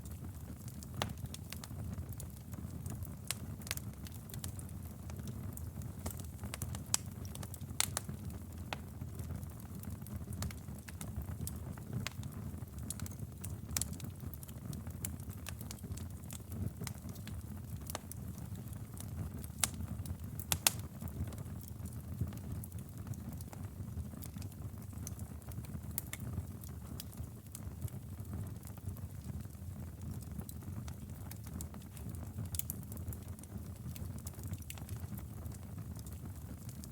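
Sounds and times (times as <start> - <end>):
fire crackles and pops: 0.0 - 36.9.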